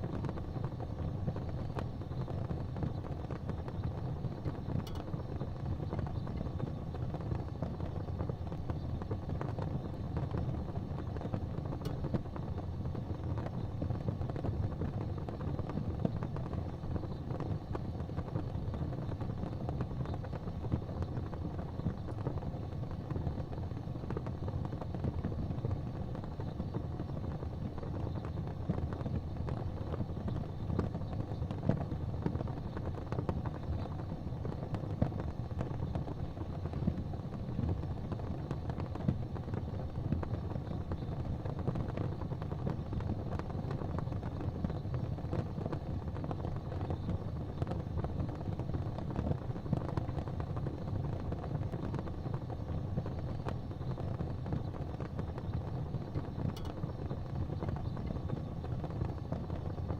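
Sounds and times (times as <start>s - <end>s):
fire crackling and popping: 0.0s - 59.9s
low rumble of fire: 0.0s - 59.9s.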